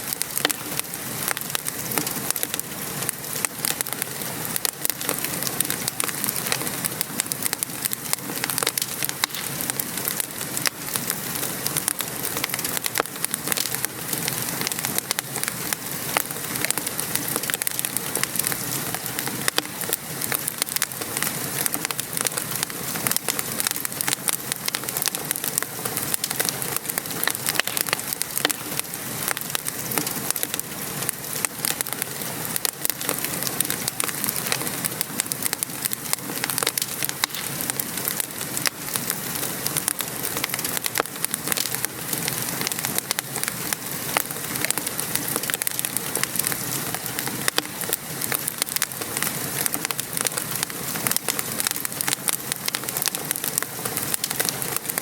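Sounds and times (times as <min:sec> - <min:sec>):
rain pattering: 0:00.0 - 0:55.0
wood fire crackling and popping: 0:00.0 - 0:55.0.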